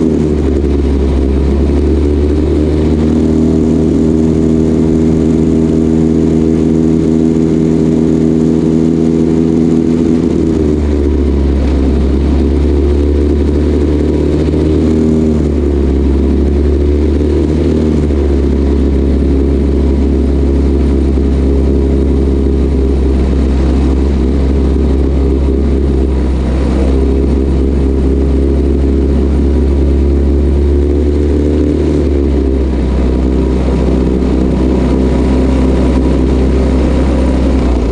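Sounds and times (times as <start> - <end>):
single-cylinder engine running: 0.0 - 37.9.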